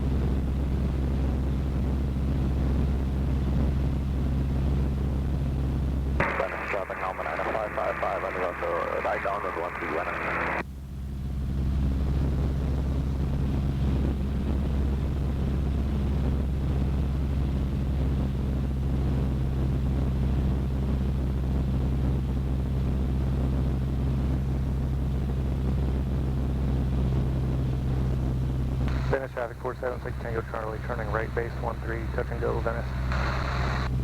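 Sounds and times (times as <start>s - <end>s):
airplane engine droning: 0.0s - 10.6s, 11.5s - 34.0s.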